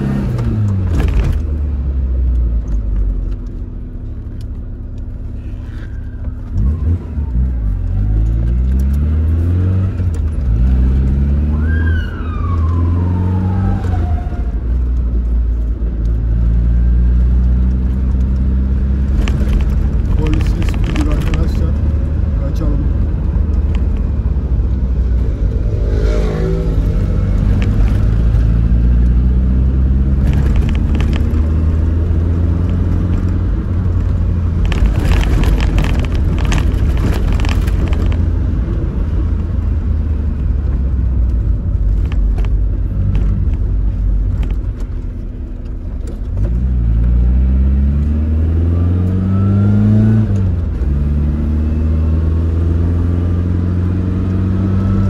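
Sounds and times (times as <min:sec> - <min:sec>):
car engine and loud exhaust revving: 0:00.0 - 0:55.0.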